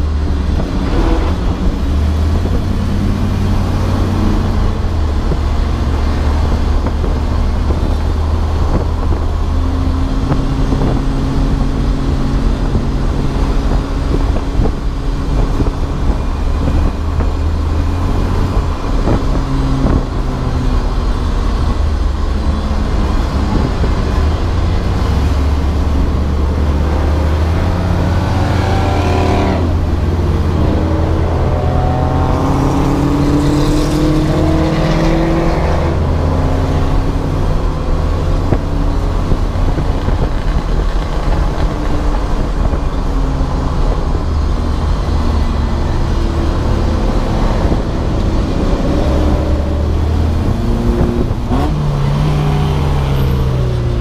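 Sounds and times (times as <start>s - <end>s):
race car engine drone: 0.0s - 54.0s.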